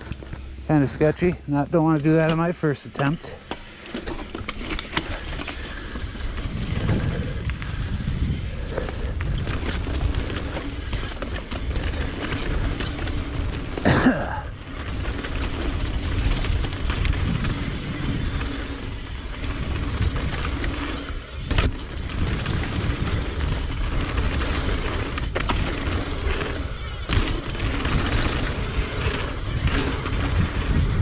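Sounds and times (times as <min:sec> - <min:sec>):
bike rattling over rough ground: 0:00.0 - 0:31.0
bike tyres rolling on dirt: 0:00.0 - 0:31.0
wind rushing over microphone: 0:05.2 - 0:13.7, 0:14.4 - 0:31.0.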